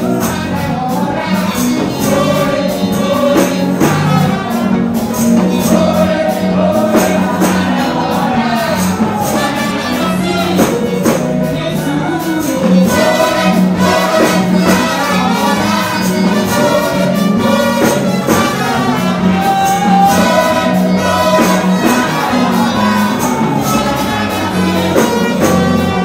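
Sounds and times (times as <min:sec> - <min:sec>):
amplified church band music: 0:00.0 - 0:26.0
woman and man singing gospel: 0:00.0 - 0:26.0.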